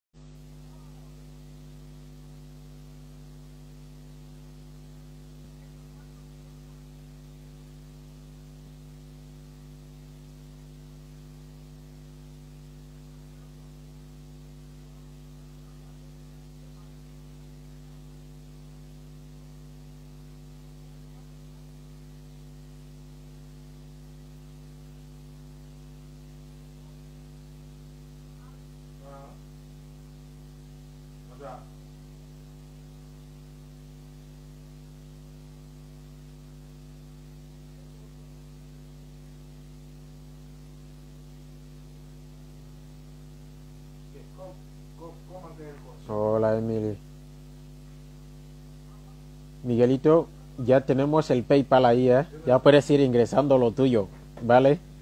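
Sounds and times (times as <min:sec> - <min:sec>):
electrical mains hum: 0:00.2 - 0:55.0.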